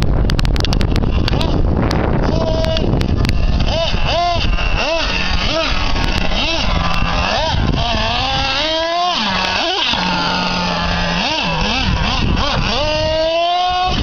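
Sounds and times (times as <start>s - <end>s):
toy nitro engine revving: 0.8s - 14.0s.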